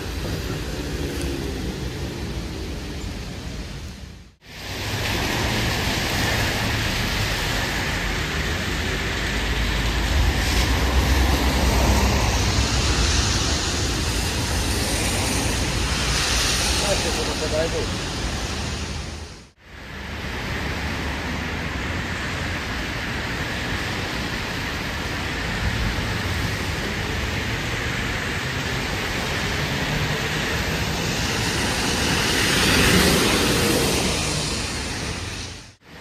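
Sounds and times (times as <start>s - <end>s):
rain hissing: 0.0s - 36.0s
tyres on wet street: 0.0s - 36.0s.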